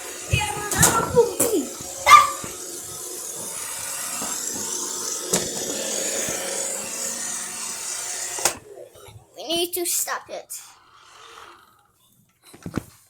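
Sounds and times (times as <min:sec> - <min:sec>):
robot vacuum whining: 0:00.0 - 0:12.2.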